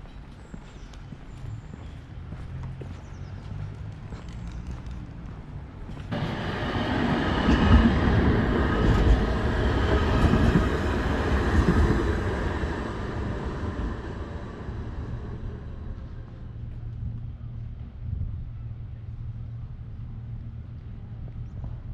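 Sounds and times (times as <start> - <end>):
tram passing rumble: 0.0 - 21.9.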